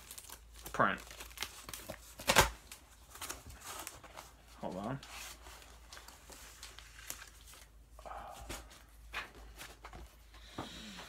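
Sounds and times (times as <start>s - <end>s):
paper and cardboard crinkling: 0.0s - 10.2s.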